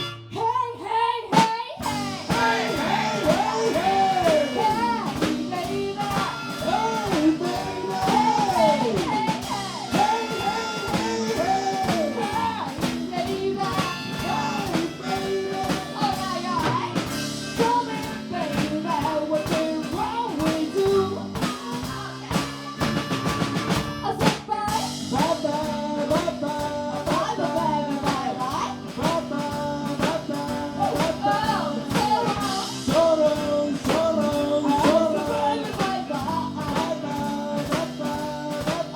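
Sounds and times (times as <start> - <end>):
blues band playing: 0.0 - 0.7, 1.3 - 38.9
drum kit: 1.3 - 38.9.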